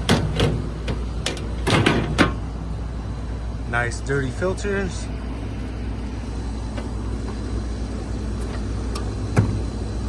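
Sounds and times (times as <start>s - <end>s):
low machinery rumble: 0.0s - 10.0s.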